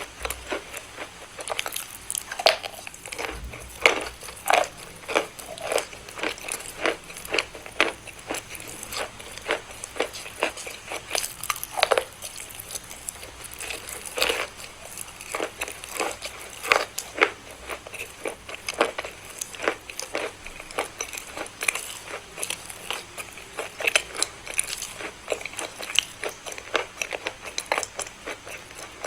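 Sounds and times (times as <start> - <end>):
chewing crunchy chalk: 0.0 - 29.0.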